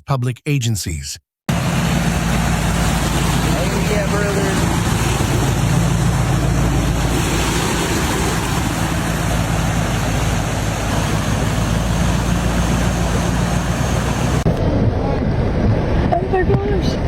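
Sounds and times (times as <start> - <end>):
loud rushing noise: 1.5 - 16.2
vehicle engine idling: 1.5 - 16.5.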